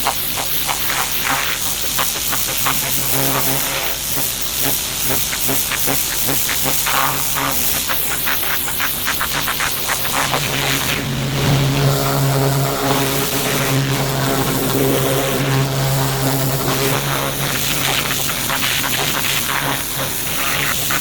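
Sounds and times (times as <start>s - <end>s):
pressure washer water jet hissing: 0.0s - 21.0s
motor humming: 3.0s - 21.0s.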